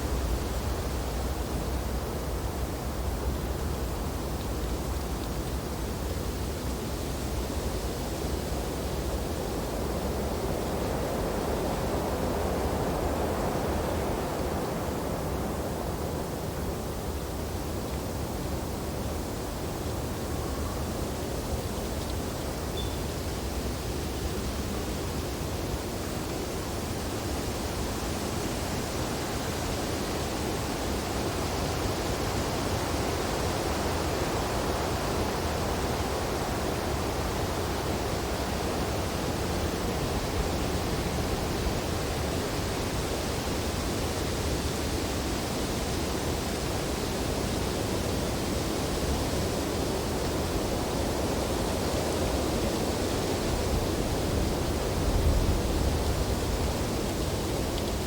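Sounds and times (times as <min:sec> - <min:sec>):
wind through tree branches: 0:00.0 - 0:58.0.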